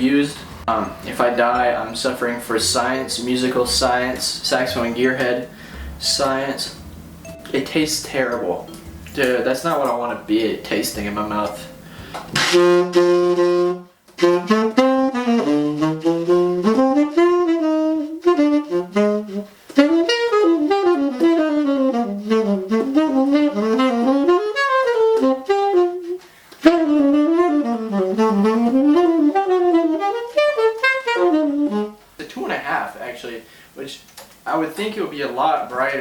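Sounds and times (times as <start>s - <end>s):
tenor saxophone jazz runs: 0.0s - 33.7s.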